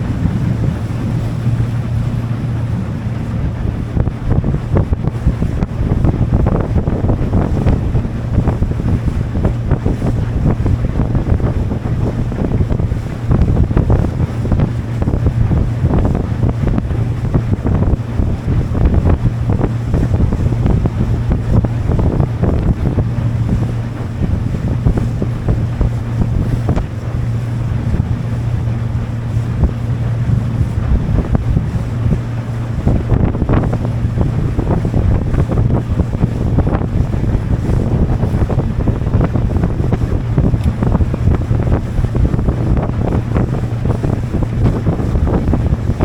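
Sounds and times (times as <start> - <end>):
motorboat engine hum: 0.0 - 46.0
water wash: 0.0 - 46.0
wind buffeting microphone: 0.0 - 46.0.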